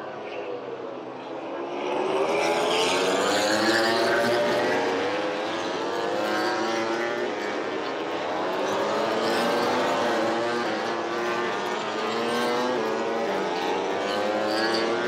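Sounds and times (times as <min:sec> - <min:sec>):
racing motorcycles passing: 0:01.3 - 0:15.0.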